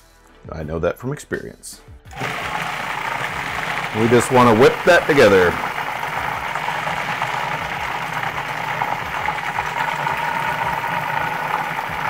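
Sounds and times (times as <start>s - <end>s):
food processor motor whining: 2.1s - 12.0s.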